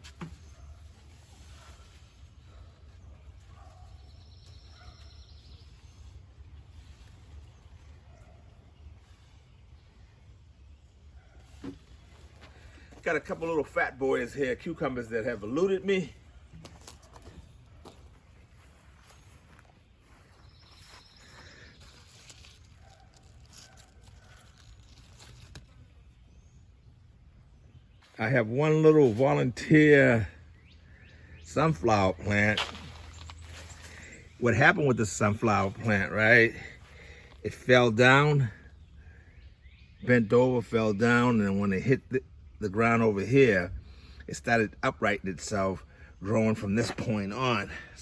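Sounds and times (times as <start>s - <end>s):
distant bird calls: 0.0s - 44.4s.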